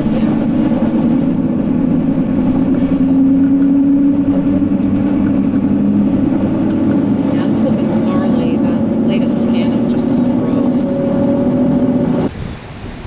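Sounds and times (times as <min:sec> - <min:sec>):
car engine running: 0:00.0 - 0:12.3.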